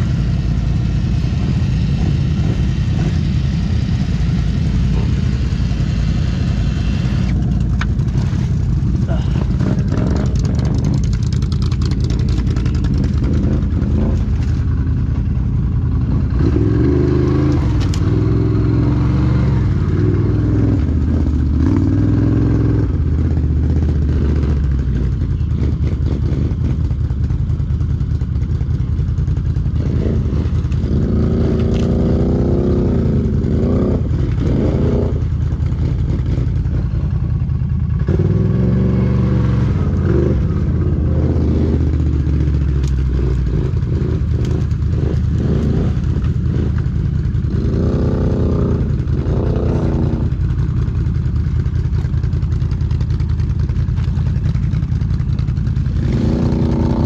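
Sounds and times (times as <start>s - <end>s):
atv engine revving: 0.0s - 26.9s, 29.5s - 57.0s.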